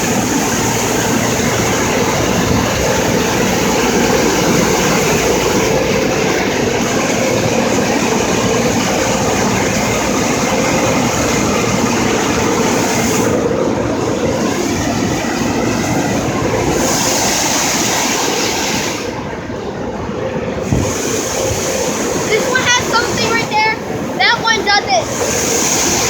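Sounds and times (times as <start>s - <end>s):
car wash dryers blowing air: 0.0s - 26.0s
constant hum: 0.0s - 26.0s.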